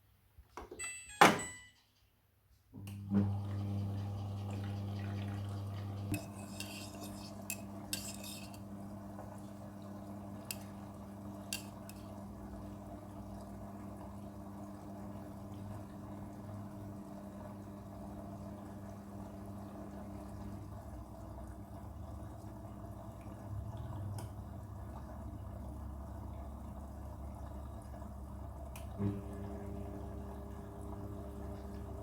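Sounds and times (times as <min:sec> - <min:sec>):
washing machine humming: 0:00.8 - 0:01.9, 0:02.7 - 0:32.0.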